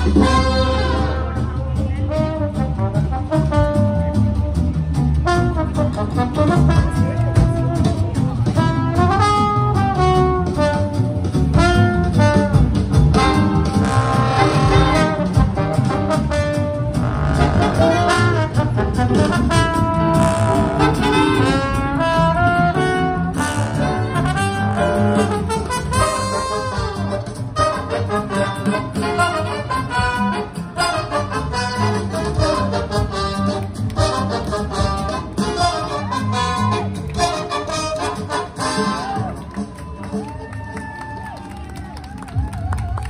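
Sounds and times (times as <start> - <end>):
jazzy brass music: 0.0 - 40.3.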